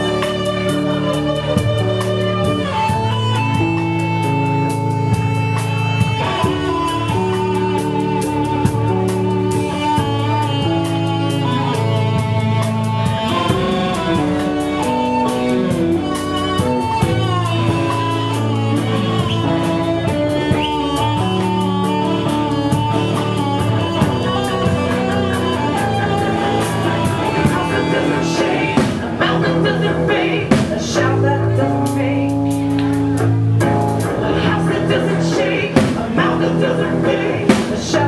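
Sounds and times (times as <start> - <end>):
held violin notes: 0.0 - 30.6
drums steady beat: 0.0 - 38.0
live rock band playing: 0.0 - 38.0.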